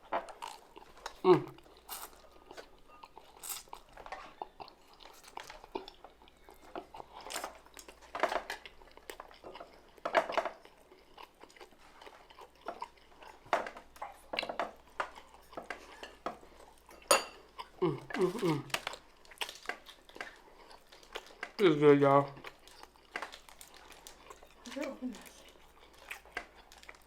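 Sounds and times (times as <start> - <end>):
person chewing crunchy food: 0.0 - 21.6, 22.2 - 27.0.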